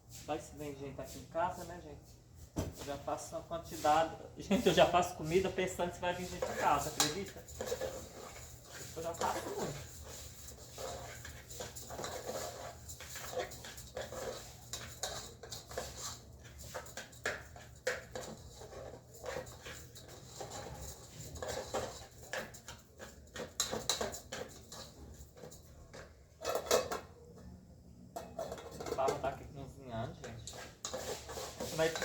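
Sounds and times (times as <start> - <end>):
pots and utensils clinking: 4.6 - 27.3, 28.1 - 32.0.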